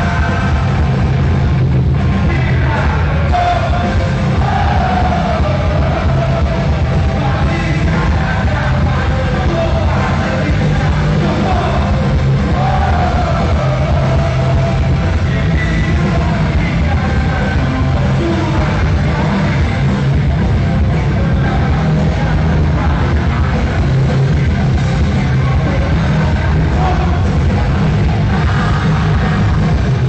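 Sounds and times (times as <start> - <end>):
person singing: 0.0 - 1.2, 1.9 - 30.0
bass guitar: 0.0 - 30.0
drums: 0.0 - 30.0
electric guitar: 0.0 - 30.0.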